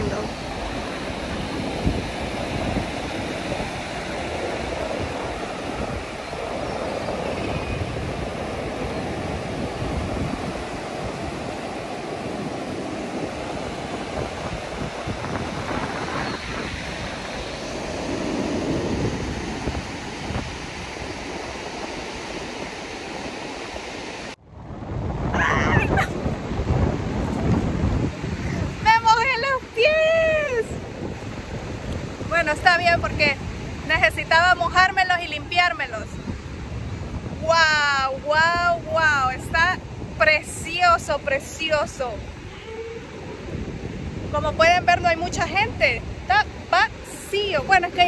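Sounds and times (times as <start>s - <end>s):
small waves washing on shore: 0.0s - 48.0s
wind buffeting microphone: 0.0s - 48.0s.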